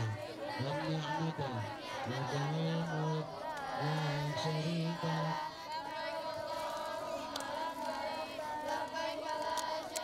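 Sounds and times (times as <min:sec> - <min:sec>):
children chanting: 0:00.0 - 0:10.0.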